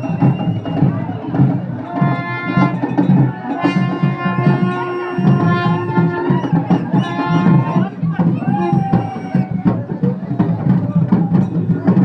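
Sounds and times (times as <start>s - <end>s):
wind instrument long held notes: 0.0s - 10.0s
drums beating steady rhythm: 0.0s - 12.0s.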